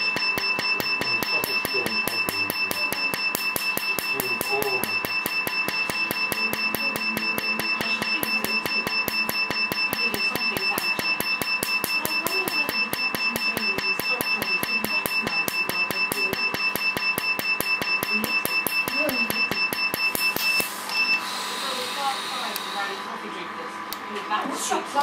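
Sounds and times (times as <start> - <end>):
steady high-pitched tone: 0.0 - 23.2
laser pulses snapping: 0.4 - 21.0.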